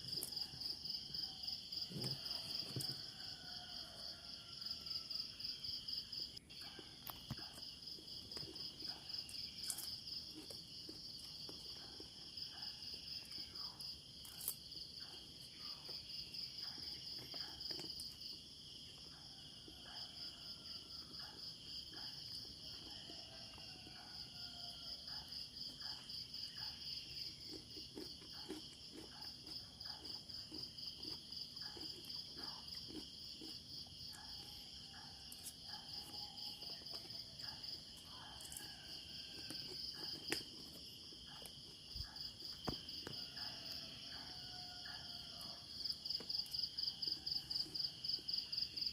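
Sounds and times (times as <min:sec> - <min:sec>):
crickets chirping: 0:00.0 - 0:48.9.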